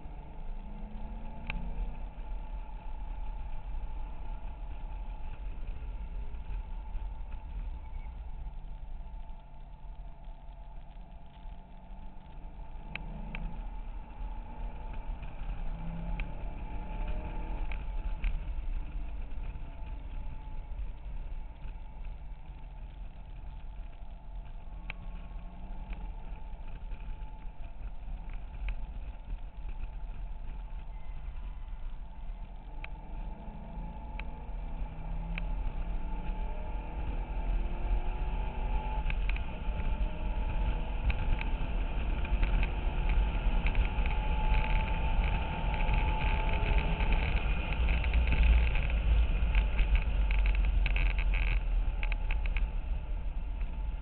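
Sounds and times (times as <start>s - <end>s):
car engine accelerating: 0.0s - 54.0s
faint clicks: 0.0s - 54.0s
low road and wind rumble: 0.0s - 54.0s.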